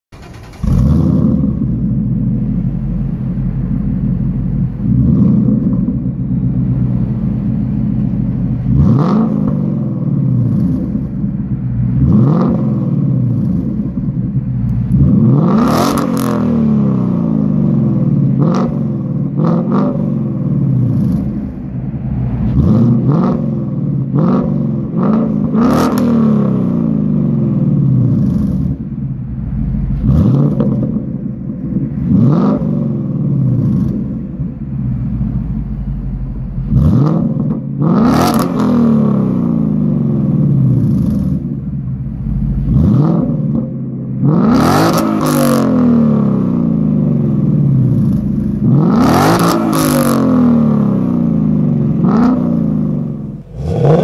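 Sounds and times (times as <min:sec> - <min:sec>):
car engine revving and burbling: 0:00.0 - 0:54.0.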